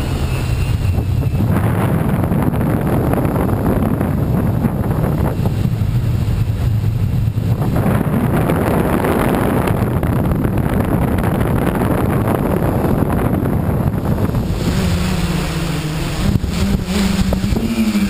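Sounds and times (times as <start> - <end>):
drone motors humming: 0.0 - 18.0
wind rushing over microphone: 0.0 - 18.0.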